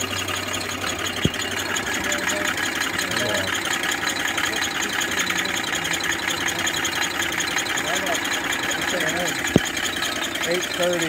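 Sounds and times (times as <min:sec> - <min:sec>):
steam engine clattering: 0:00.0 - 0:11.0.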